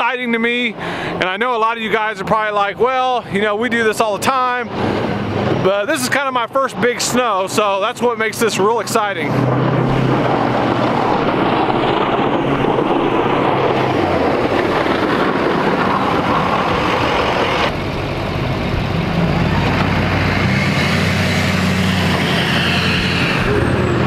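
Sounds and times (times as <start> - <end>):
plow trucks pushing snow: 0.6 - 24.0
low engine hum: 4.5 - 24.0.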